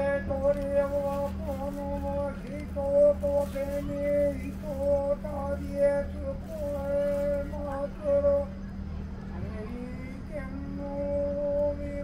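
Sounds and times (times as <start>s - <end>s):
man chanting a prayer: 0.0s - 8.6s, 9.3s - 12.0s
steady low hum: 0.0s - 12.0s.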